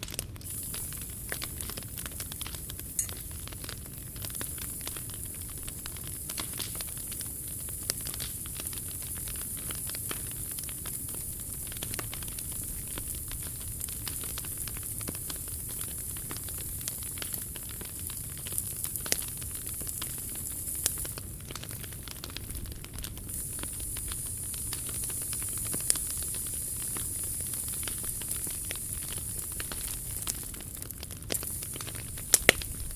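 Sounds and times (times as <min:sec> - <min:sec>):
wood fire crackling in a stove: 0:00.0 - 0:32.9.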